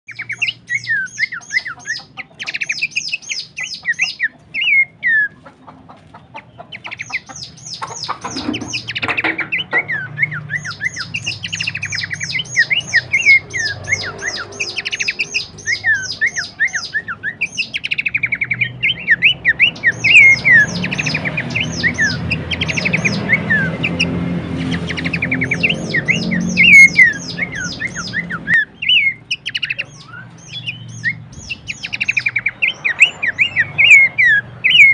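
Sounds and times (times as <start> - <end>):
bird chirping and whistling: 0.1 - 5.4, 6.8 - 34.9.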